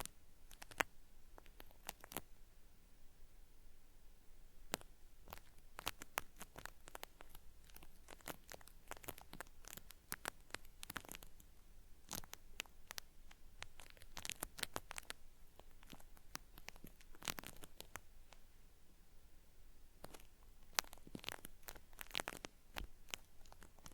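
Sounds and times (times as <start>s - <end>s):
cotton swab scratching microphone: 0.0s - 2.3s, 4.7s - 18.4s, 20.0s - 23.9s.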